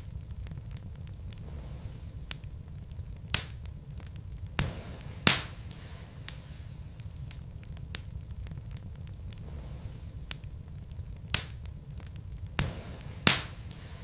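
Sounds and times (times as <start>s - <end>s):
logs crackling in fireplace: 0.0s - 14.0s
low rumble of flames: 0.0s - 14.0s.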